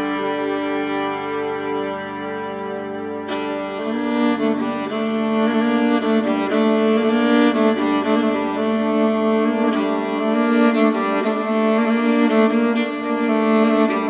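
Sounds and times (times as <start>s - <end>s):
bowed string music: 0.0s - 14.0s.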